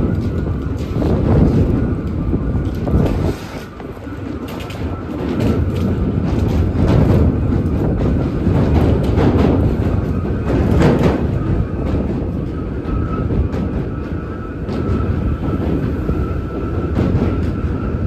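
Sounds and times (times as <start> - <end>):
subway train wheels rumbling on rail: 0.0 - 18.0.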